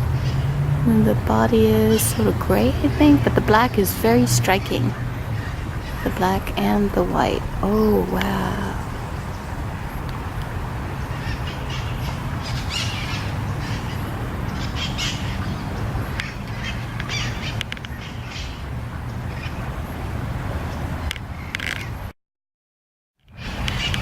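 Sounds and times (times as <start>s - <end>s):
steady low rumble: 0.0s - 20.6s.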